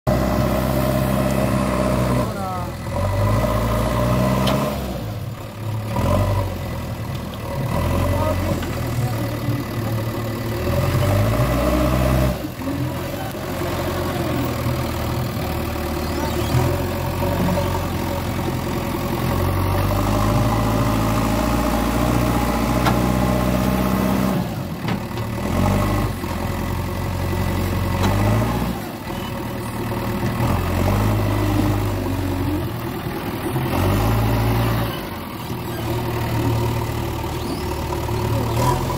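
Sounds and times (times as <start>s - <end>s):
diesel engine running under load: 0.1s - 38.9s.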